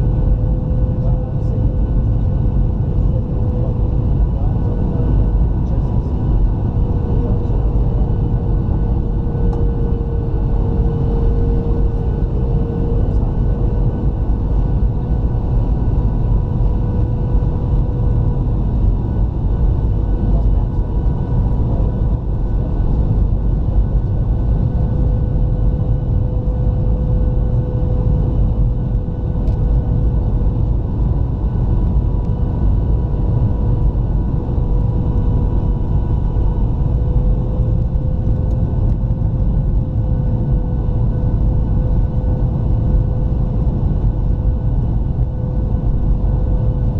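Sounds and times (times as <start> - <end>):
airliner cabin rumble: 0.0 - 46.9
jet engine whine: 0.0 - 46.9.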